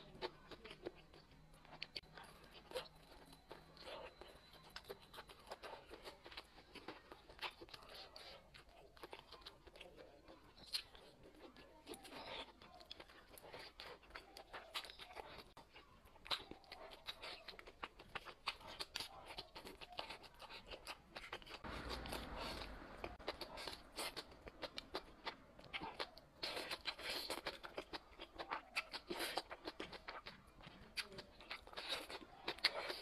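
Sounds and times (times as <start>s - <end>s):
chewing with crunches: 0.0s - 33.0s.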